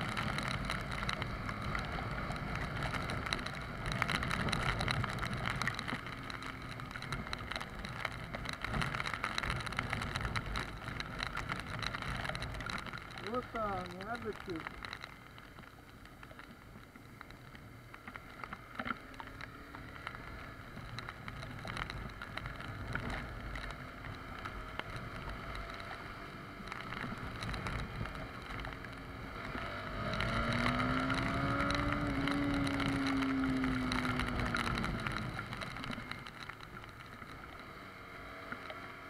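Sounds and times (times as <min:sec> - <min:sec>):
scattered ticks: 0:00.0 - 0:37.6
motorcycle engine running: 0:00.0 - 0:39.0.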